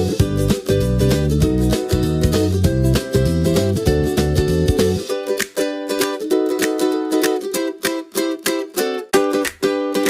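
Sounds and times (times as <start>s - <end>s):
upbeat plucked-string music: 0.0s - 10.0s.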